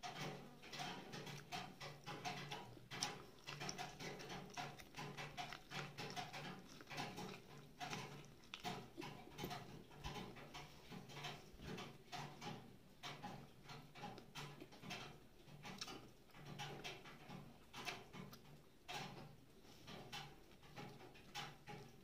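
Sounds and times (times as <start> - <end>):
person chewing corn on the cob: 0.0 - 22.0.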